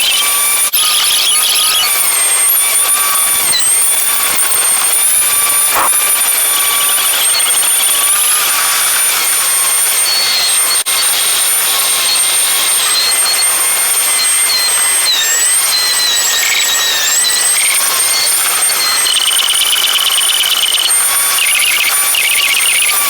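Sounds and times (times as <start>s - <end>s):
rapid chirping ticks: 0.0s - 23.0s.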